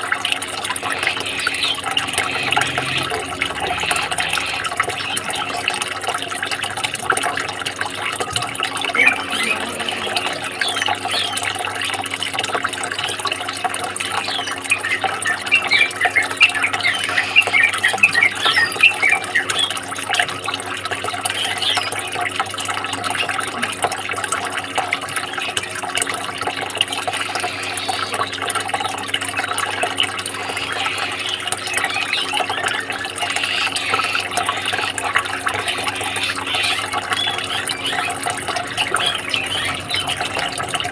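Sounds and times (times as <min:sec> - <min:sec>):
water running and splashing: 0:00.0 - 0:40.9.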